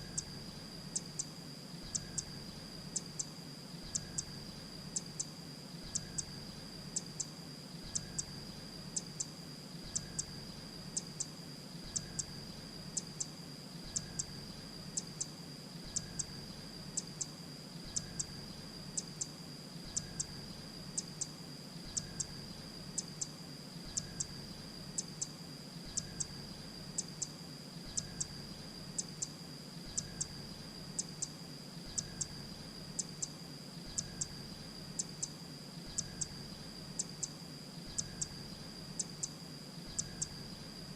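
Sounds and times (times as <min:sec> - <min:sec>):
steady high-pitched whine: 0:00.0 - 0:40.9.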